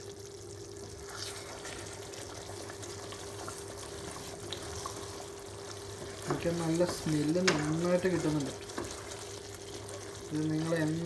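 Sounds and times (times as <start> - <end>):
spatula stirring thick sauce: 0.9 - 11.0.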